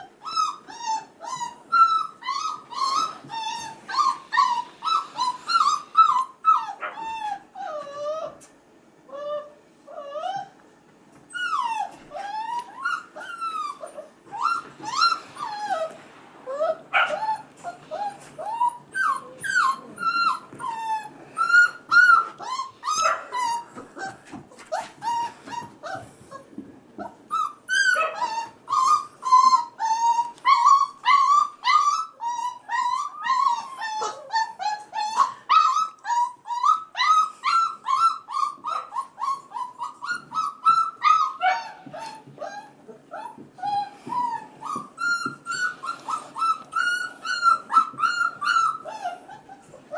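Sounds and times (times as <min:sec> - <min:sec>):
puppies whining and yipping: 0:00.0 - 0:49.9.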